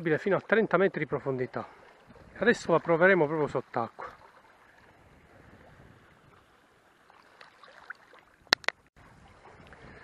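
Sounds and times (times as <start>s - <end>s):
sea water lapping on rocks: 0.0s - 10.0s.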